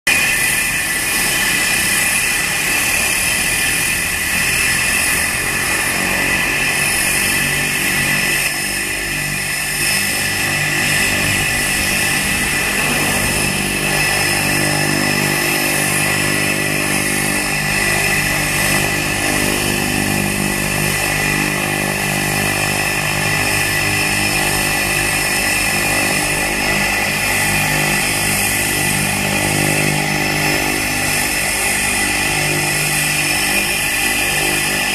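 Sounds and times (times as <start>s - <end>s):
propeller drone: 0.1s - 34.9s
turboprop turbine whine: 0.1s - 34.9s.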